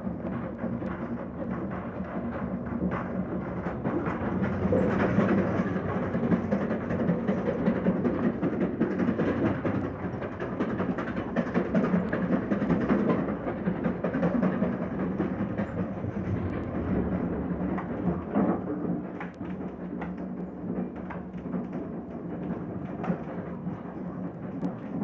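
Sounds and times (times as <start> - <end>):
train rumbling and rattling: 0.0 - 25.0.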